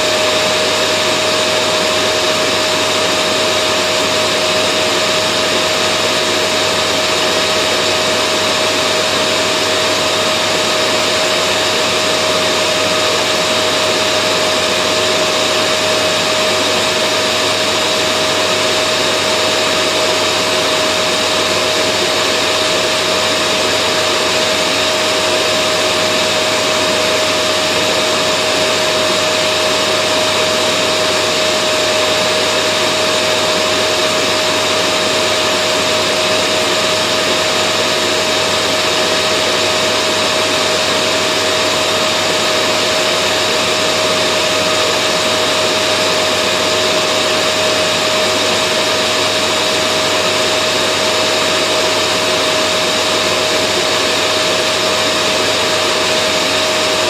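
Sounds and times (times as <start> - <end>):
vacuum cleaner motor running: 0.0 - 57.0.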